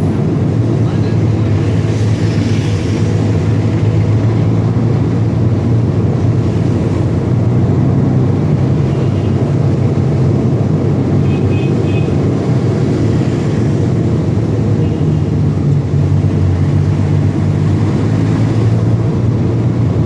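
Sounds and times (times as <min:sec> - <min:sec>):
heavy truck engine running: 0:00.0 - 0:20.0.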